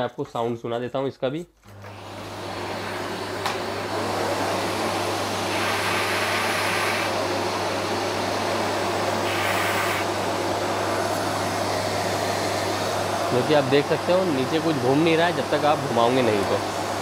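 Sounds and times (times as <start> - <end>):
vacuum cleaner running: 1.6 - 17.0.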